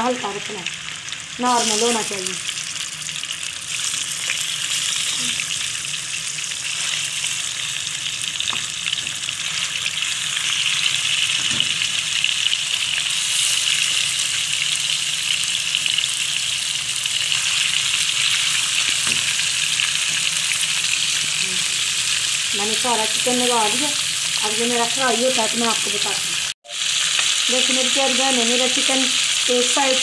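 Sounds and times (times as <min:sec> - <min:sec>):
chicken sizzling in hot fat: 0:00.0 - 0:30.0.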